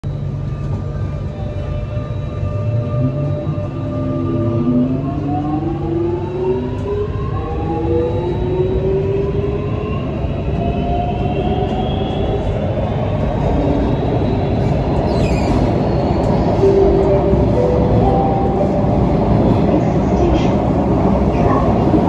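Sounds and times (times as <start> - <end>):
wheels rumbling on rails: 0.2 - 22.0.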